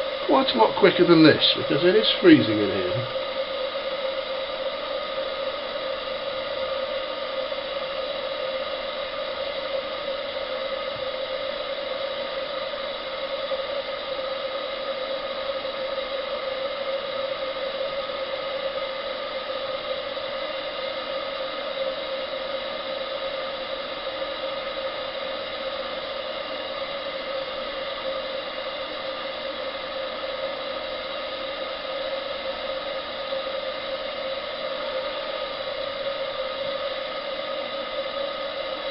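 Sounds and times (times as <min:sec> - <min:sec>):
gas burner flame hissing: 0:00.0 - 0:38.9.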